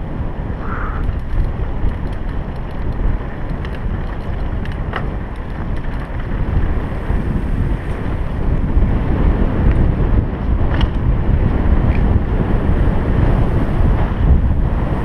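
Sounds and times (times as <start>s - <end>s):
bike rattling over bumps: 0.0s - 15.0s
tyres rumbling on dirt: 0.0s - 15.0s
wind buffeting microphone: 0.0s - 15.0s.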